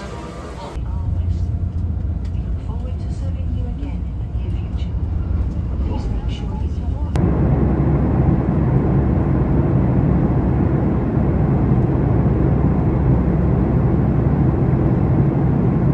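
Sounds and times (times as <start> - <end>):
vehicle engine rumbling: 0.0 - 15.9.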